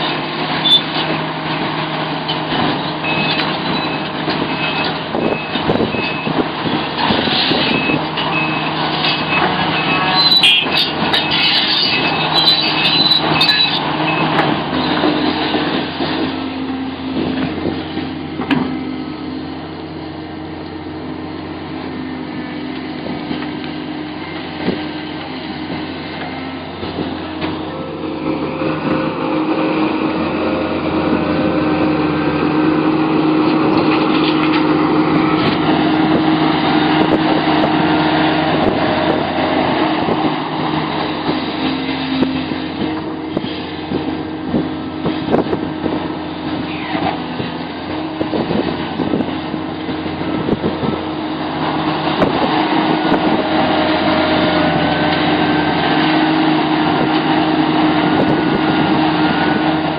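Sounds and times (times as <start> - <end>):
excavator diesel engine running: 0.0 - 59.9
hydraulic whine: 2.6 - 59.9.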